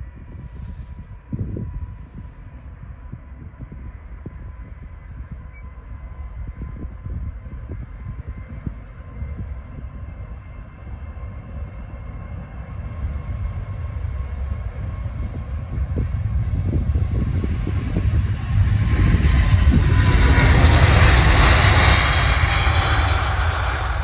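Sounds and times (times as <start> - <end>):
jet engines rumbling on takeoff: 0.0 - 24.0.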